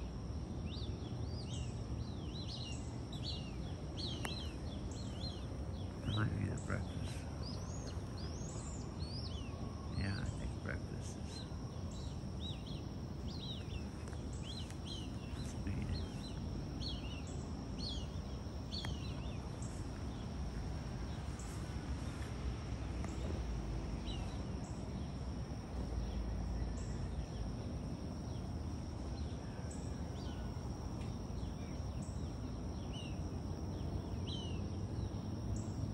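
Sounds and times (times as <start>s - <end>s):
low outdoor rumble: 0.0s - 35.9s
steady high hum: 0.0s - 35.9s
birds chirping: 0.6s - 35.9s.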